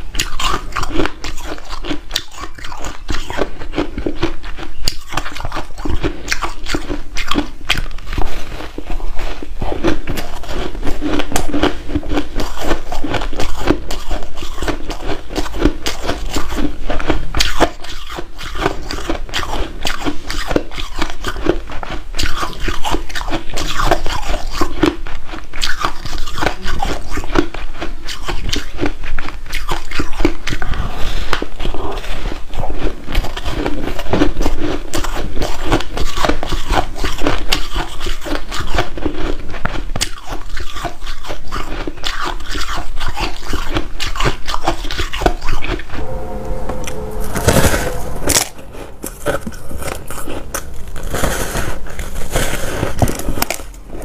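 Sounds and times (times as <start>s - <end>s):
biting and chewing ice: 0.0s - 45.9s, 49.4s - 54.0s.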